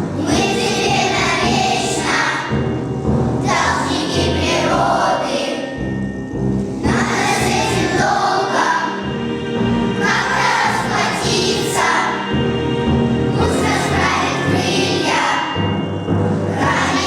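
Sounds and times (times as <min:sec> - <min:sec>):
children's choir singing: 0:00.0 - 0:17.0
instrumental accompaniment: 0:00.0 - 0:17.0.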